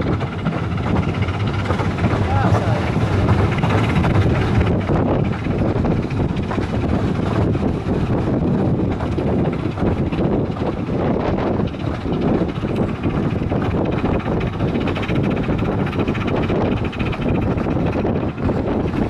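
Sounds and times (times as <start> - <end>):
moving air: 0.0 - 19.0
train wheels rumbling on track: 0.0 - 19.0.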